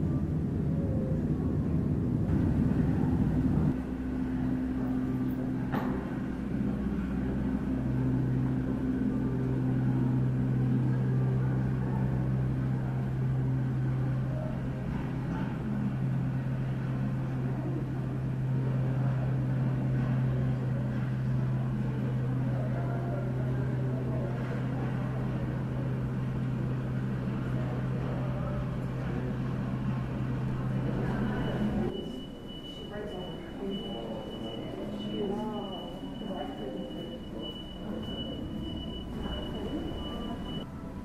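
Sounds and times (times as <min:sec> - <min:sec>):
muffled jet engines humming: 0:00.0 - 0:41.0.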